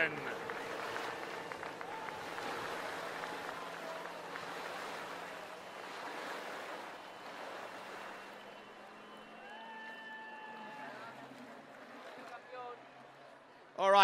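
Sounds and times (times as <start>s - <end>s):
water ski spray rushing: 0.0s - 12.3s
faint boat engine hum: 0.0s - 13.7s.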